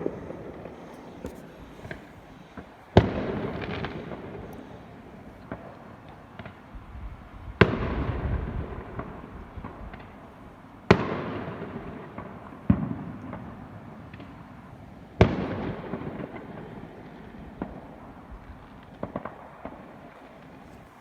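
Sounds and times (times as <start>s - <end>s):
fireworks bangs: 0.0s - 10.2s, 10.9s - 14.6s, 15.2s - 21.0s
fireworks crackles: 0.0s - 21.0s.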